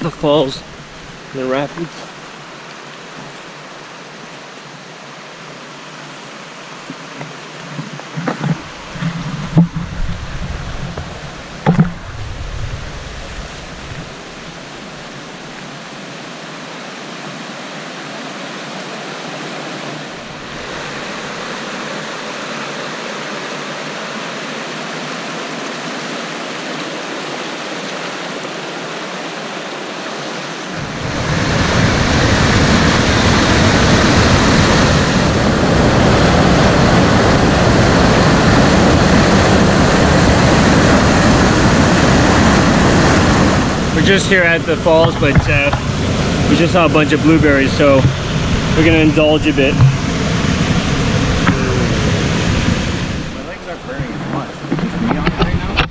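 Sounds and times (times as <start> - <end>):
rushing rapids and waterfall: 0.0 - 55.9.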